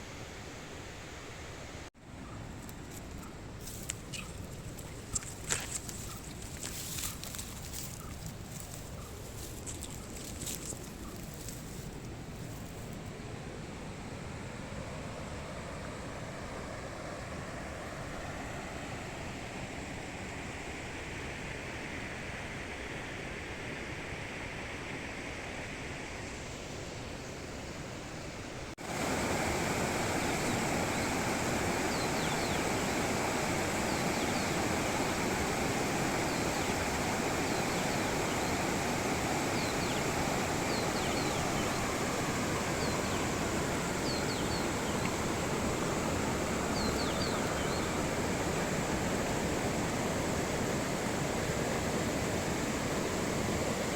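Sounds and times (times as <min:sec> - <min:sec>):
stream water rushing: 0:02.8 - 0:20.7, 0:28.4 - 0:53.9.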